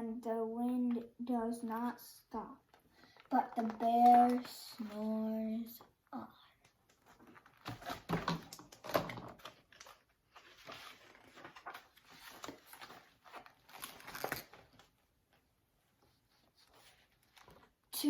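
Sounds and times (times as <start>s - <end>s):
book pages rustling and turning: 2.6s - 17.9s.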